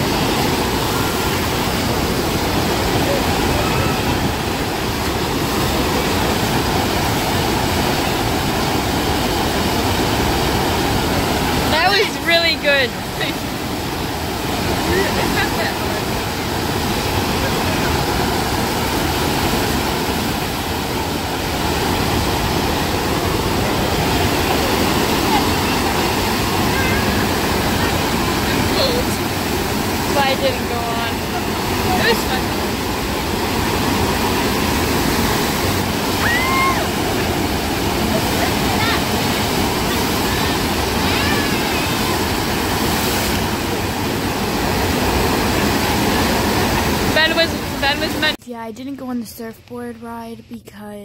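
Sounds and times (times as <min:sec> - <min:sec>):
water rushing: 0:00.0 - 0:48.4.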